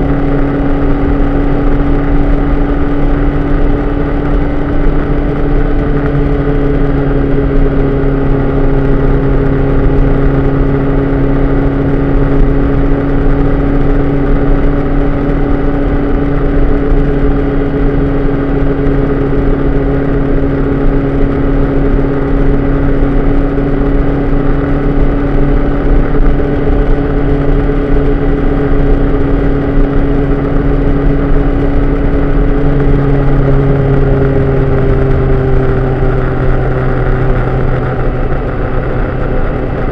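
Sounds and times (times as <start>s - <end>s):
road noise: 0.0s - 39.9s
vehicle engine running: 0.0s - 39.9s
wind noise: 0.0s - 39.9s.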